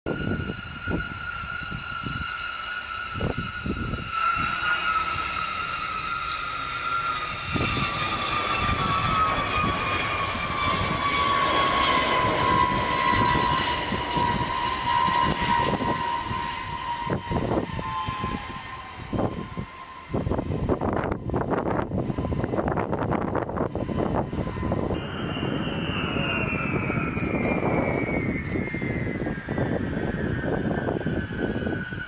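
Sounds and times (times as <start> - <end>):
wind buffeting microphone: 0.1 - 4.6, 7.2 - 32.0
jet bomber whine: 0.1 - 32.0.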